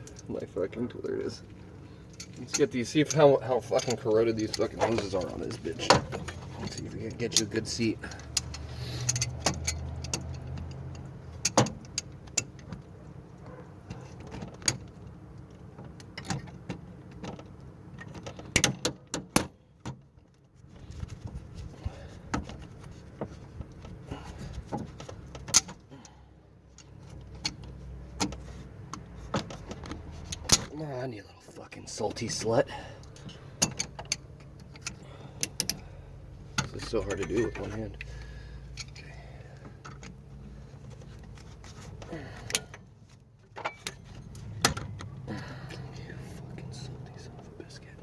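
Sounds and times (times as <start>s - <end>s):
metal tools clicking and clanking: 1.0s - 19.3s, 23.6s - 30.8s, 32.0s - 46.1s.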